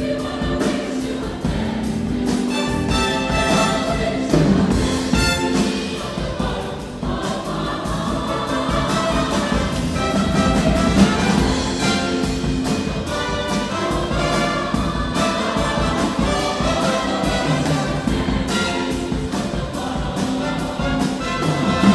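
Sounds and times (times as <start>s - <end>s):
choir singing: 0.0s - 21.9s
instrumental accompaniment: 0.0s - 21.9s
steady beat: 0.0s - 21.9s.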